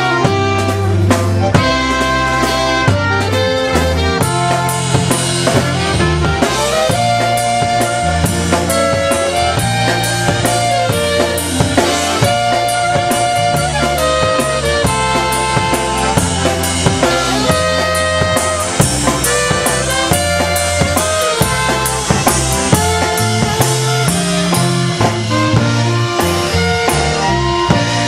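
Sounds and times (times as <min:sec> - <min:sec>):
bass guitar: 0:00.0 - 0:28.0
drum kit beat: 0:00.0 - 0:28.0
saxophone melody: 0:00.0 - 0:28.0
trumpet melody: 0:00.0 - 0:28.0.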